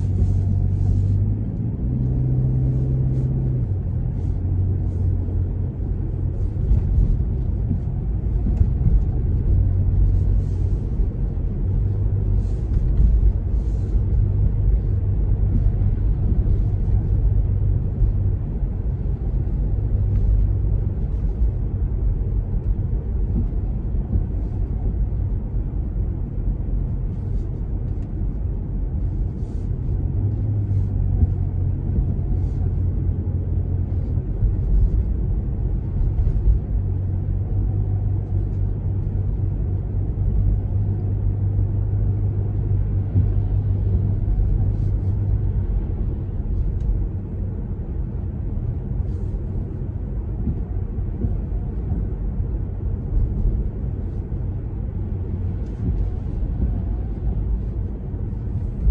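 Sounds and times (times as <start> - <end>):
car engine and tyres rumbling: 0.0 - 58.9.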